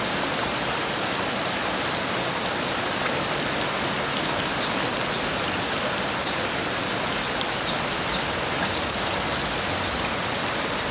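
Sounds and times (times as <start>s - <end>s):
heavy rain falling: 0.0s - 10.9s.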